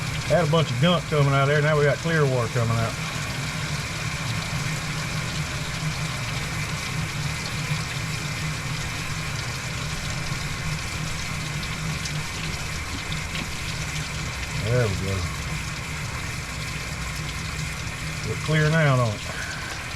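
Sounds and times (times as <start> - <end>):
engine idling: 0.0 - 19.9
water pouring from hose: 0.0 - 19.9.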